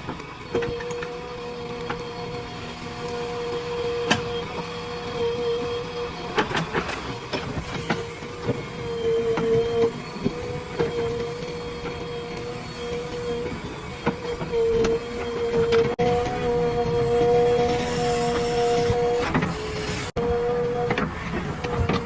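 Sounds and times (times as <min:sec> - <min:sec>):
backhoe mechanical whine: 0:00.0 - 0:22.0.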